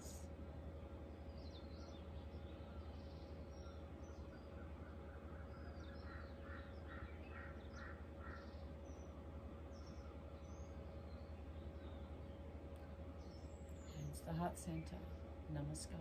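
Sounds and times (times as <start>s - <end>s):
low steady hum: 0.0s - 16.0s
birds chirping: 1.0s - 16.0s.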